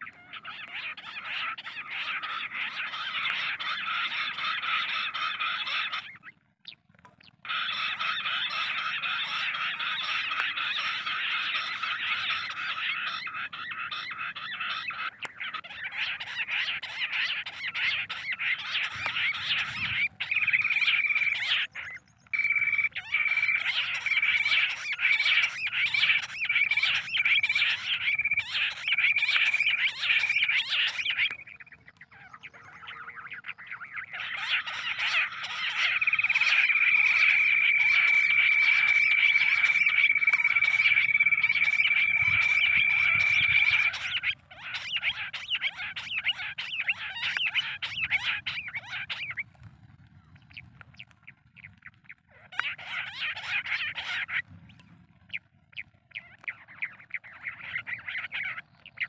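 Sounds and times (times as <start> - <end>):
quail calls through loudspeaker: 0.0 - 59.0.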